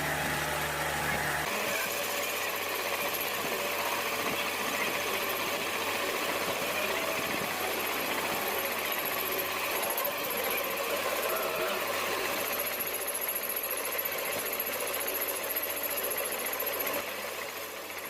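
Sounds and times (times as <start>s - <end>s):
metalworking machine running: 0.0s - 18.0s.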